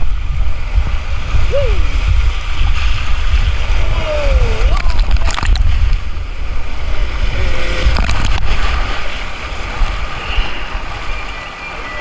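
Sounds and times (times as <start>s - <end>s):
water rushing down tube slide: 0.0s - 12.0s
wind rumble on microphone: 0.0s - 12.0s.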